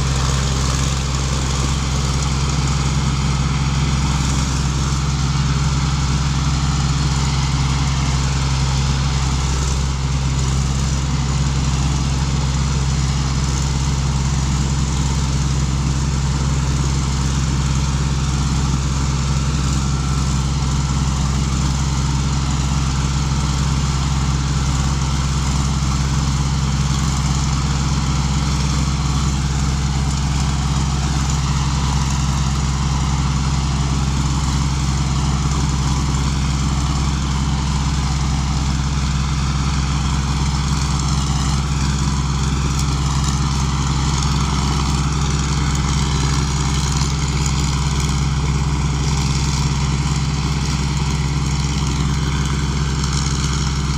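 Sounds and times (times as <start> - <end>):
combine harvester engine droning: 0.0 - 53.9.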